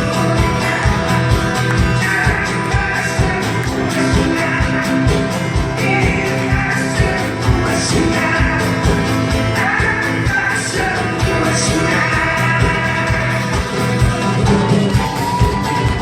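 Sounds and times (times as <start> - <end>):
rock music: 0.0 - 16.0
steady drum beat: 0.0 - 16.0.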